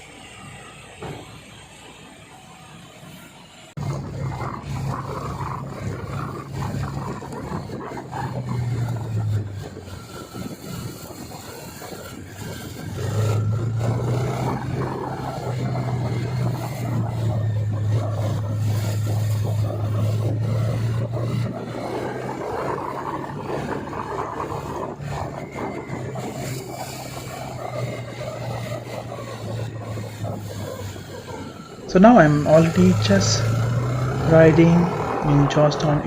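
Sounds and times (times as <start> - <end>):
wind and road noise: 0.0 - 36.0
motorcycle engine running: 3.8 - 36.0.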